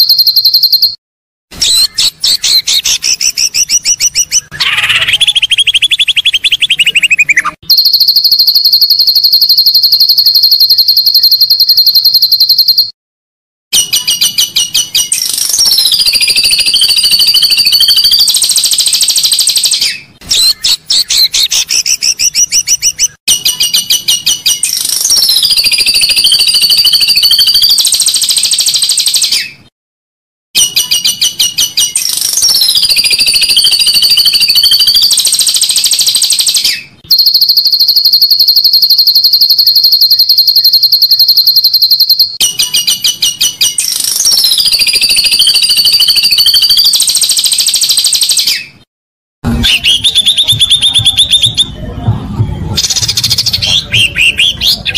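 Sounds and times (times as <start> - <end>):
bird fast trill: 0.0 - 1.0, 1.6 - 13.0, 13.7 - 29.7, 30.6 - 48.8, 49.5 - 51.7.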